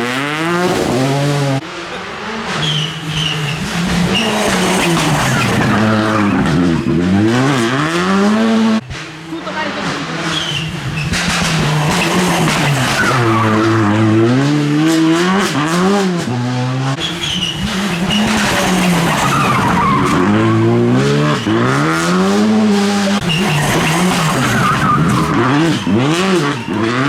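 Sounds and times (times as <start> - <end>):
rally car engine revving: 0.0 - 27.0
tyres skidding: 0.0 - 27.0.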